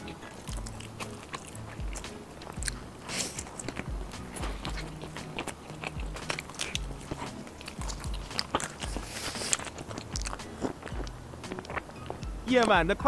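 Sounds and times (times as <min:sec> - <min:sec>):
crunchy chewing: 0:00.0 - 0:12.8.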